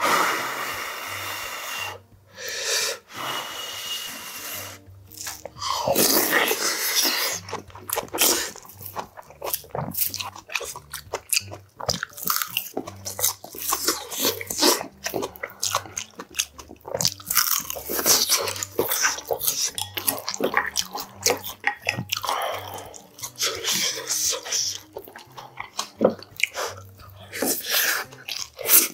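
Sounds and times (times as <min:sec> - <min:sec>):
man chewing and crunching food: 0:04.6 - 0:28.9.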